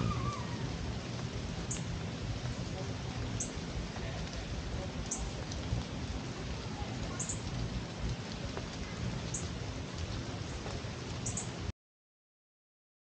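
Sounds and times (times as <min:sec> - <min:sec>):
steady rain: 0:00.0 - 0:11.7.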